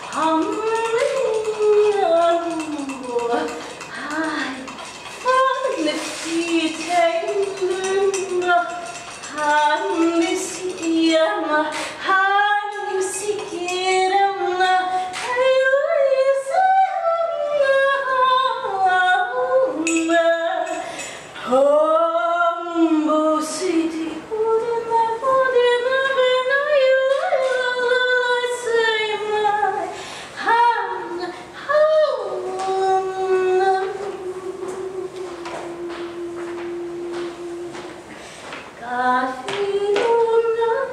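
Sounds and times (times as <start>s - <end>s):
woman singing unaccompanied: 0.0s - 38.1s, 38.8s - 40.9s.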